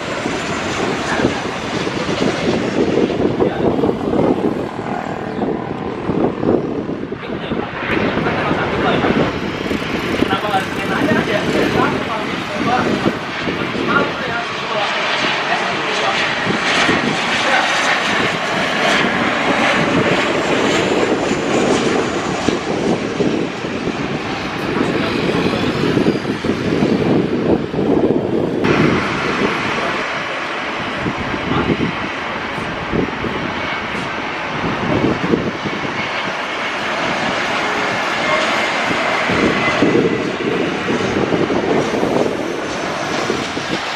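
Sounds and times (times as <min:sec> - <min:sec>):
airliner engines running: 0:00.0 - 0:43.9
wind buffeting microphone: 0:00.0 - 0:43.9.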